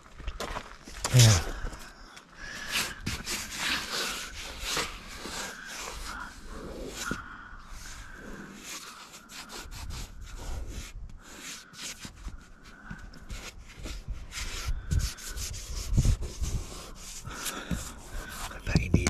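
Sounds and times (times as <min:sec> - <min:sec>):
hand rubbing gritty glass: 0:02.6 - 0:07.2, 0:07.8 - 0:19.0.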